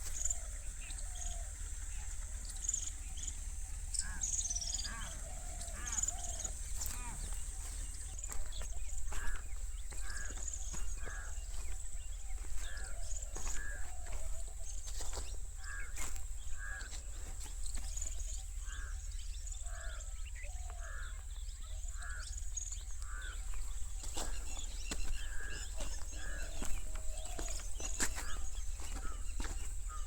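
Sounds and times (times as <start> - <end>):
bird calling: 0.0 - 30.0.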